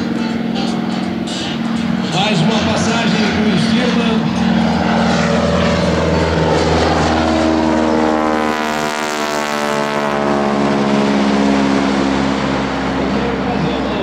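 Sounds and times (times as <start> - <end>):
biplane engine droning overhead: 0.0 - 14.0.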